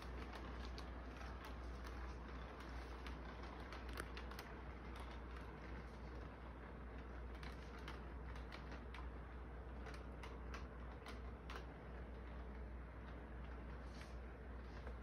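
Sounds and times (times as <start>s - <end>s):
model train wheels clicking on rails: 0.0s - 15.0s
steady low hum: 0.0s - 15.0s.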